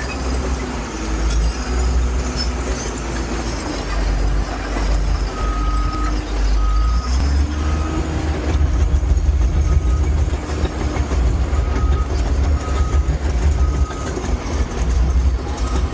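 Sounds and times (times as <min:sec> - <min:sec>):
bulldozer diesel engine rumble: 0:00.0 - 0:15.9.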